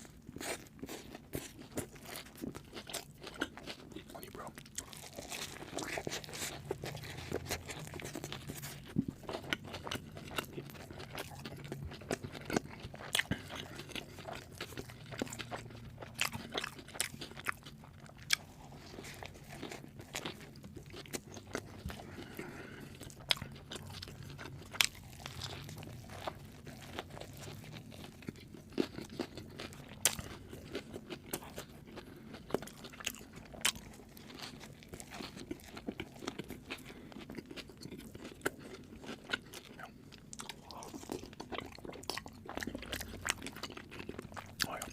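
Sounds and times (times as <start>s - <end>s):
crunchy food being chewed: 0.0s - 44.9s
faint low hum: 0.0s - 44.9s.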